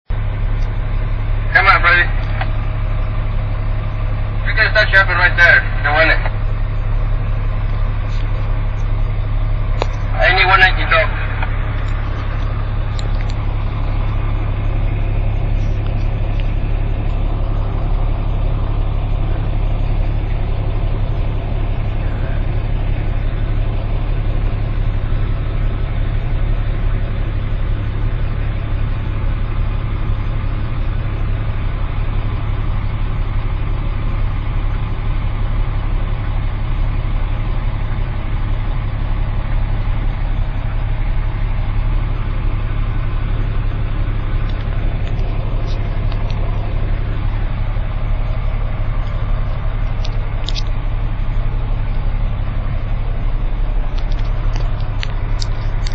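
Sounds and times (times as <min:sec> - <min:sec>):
truck engine drone: 0:00.0 - 0:55.9.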